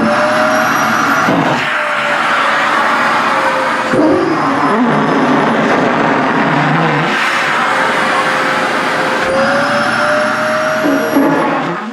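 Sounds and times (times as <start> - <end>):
vacuum cleaner running: 0.0 - 11.9.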